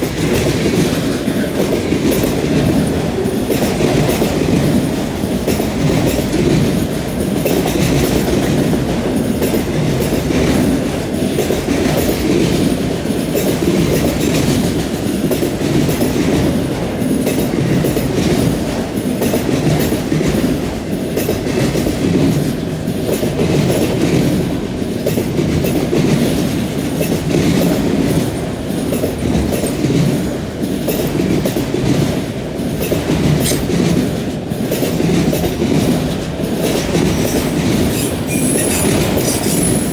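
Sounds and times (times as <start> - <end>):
freight train cars rumbling past: 0.0 - 39.9
wheels clickety-clack on rail joints: 0.0 - 39.9.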